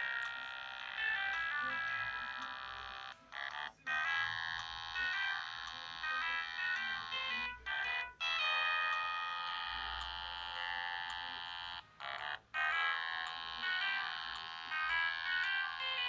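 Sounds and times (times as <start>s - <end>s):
ringtone melody from phone speaker: 0.0s - 16.0s.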